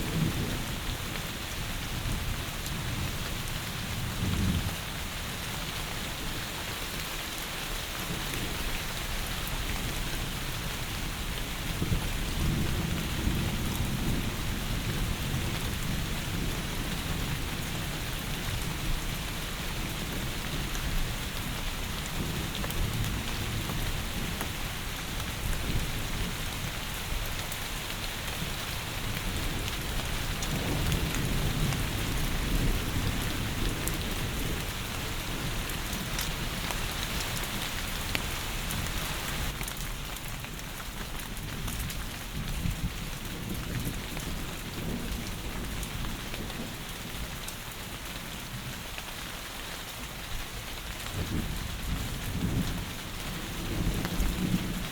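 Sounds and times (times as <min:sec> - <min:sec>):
low rumbles of thunder: 0:00.0 - 0:05.3, 0:08.1 - 0:37.7, 0:41.2 - 0:47.5, 0:51.1 - 0:54.9
heavy rain: 0:00.0 - 0:54.9.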